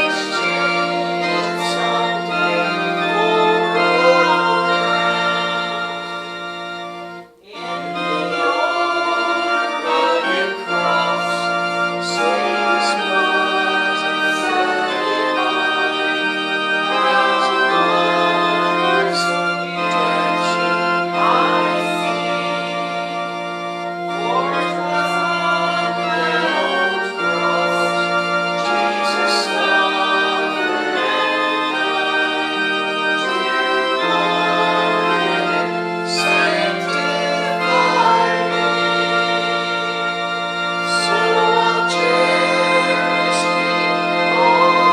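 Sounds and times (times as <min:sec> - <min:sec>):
organ playing held chords: 0:00.0 - 0:44.9.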